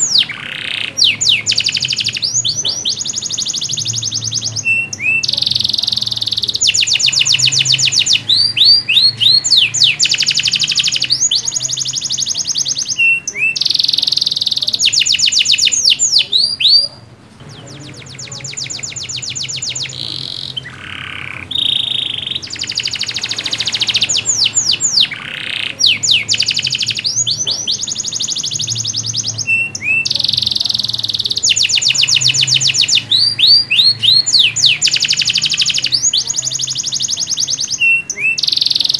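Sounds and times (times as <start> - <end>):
canary singing fast trills: 0.0 - 38.9.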